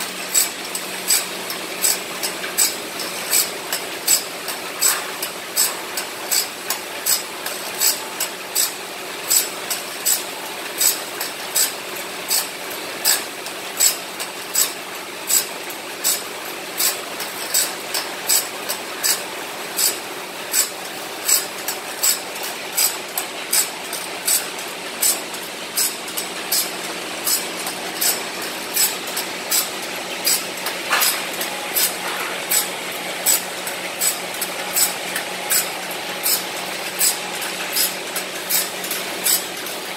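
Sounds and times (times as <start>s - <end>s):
grinding wheel on saw blade: 0.0s - 39.9s.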